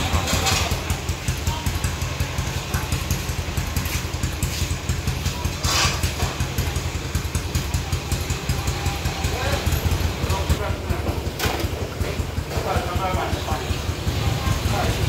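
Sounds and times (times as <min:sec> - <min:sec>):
street traffic engine rumble: 0:00.0 - 0:15.0.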